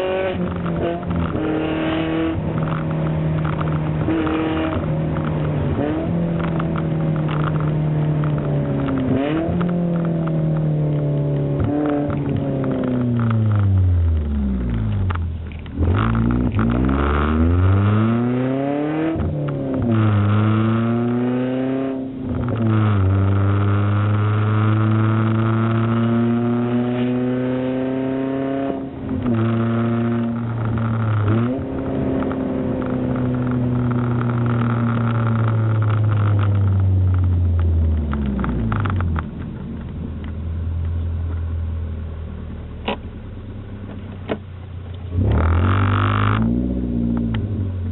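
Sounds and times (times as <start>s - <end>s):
car exhaust accelerating: 0.0s - 47.9s.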